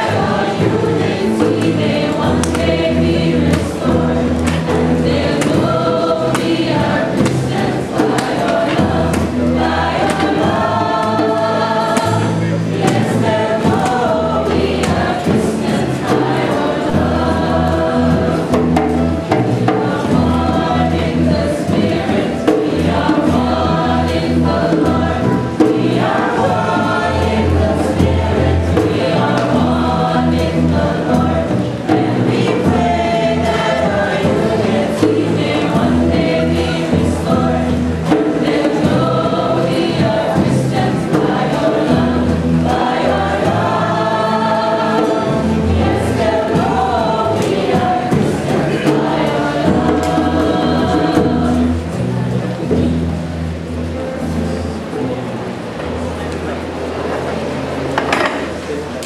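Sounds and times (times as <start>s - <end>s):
choir singing: 0.0s - 55.2s.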